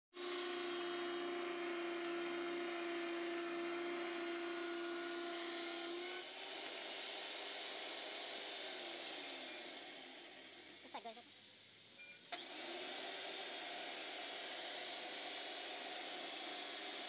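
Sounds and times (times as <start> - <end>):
pipe threading machine humming: 0.1 - 10.8, 12.3 - 17.0
soft rough whir: 0.2 - 17.0.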